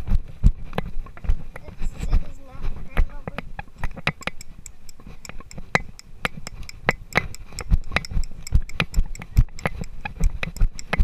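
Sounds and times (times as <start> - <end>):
rapid irregular clicking and knocking: 0.7 - 11.0.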